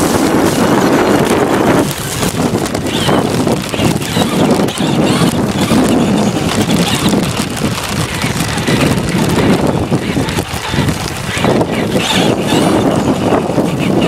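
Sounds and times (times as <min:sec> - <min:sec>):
toy truck rattling over turf: 0:00.0 - 0:14.0
wind buffeting microphone: 0:00.0 - 0:14.0.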